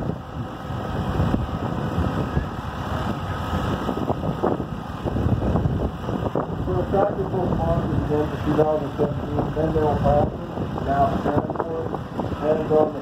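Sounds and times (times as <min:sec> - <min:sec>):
tractor diesel engine under load: 0:00.0 - 0:13.0
wind buffeting microphone: 0:00.0 - 0:13.0.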